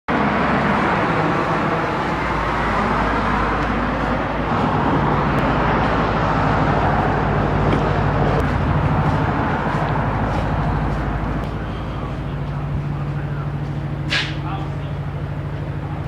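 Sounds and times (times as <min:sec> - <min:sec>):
car driving road noise: 0:00.1 - 0:16.0.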